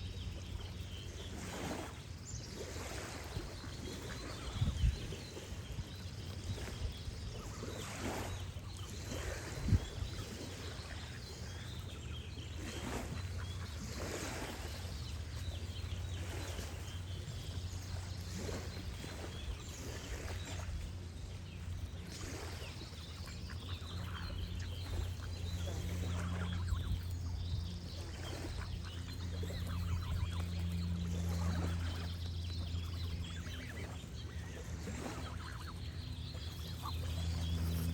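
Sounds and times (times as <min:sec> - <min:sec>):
birds singing: 0:00.0 - 0:37.9
running water: 0:00.0 - 0:37.9.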